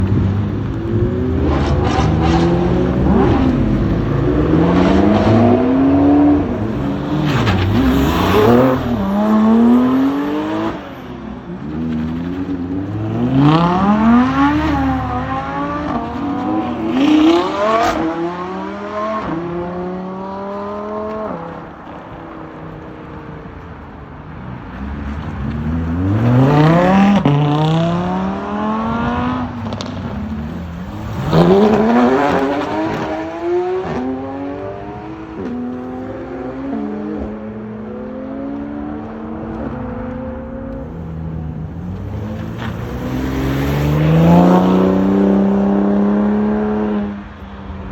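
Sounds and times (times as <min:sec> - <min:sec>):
car engines revving hard: 0:00.0 - 0:21.9, 0:24.6 - 0:47.9.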